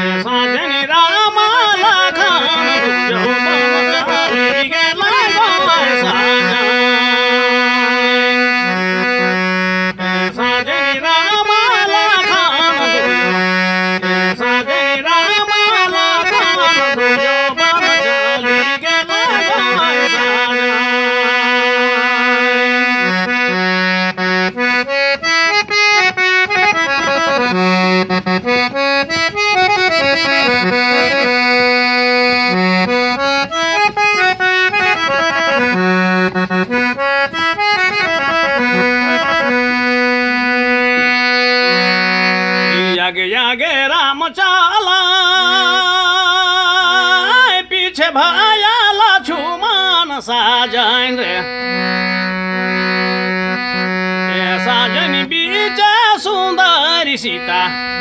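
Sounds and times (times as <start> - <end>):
harmonium playing folk melody: 0.0 - 58.0.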